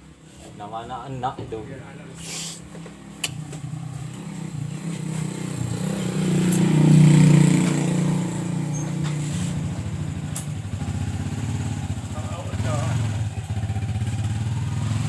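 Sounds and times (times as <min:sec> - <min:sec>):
motorcycle engine running: 0:02.7 - 0:15.0.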